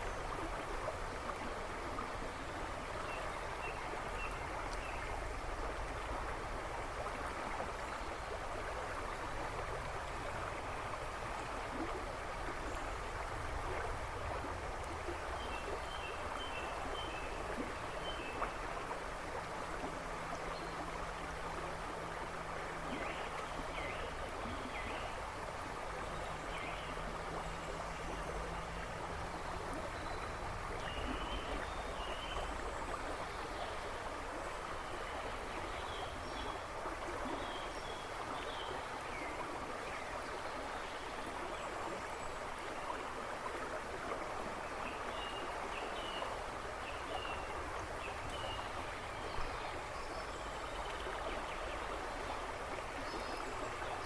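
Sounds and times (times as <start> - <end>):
river babbling and rushing: 0.0 - 54.0.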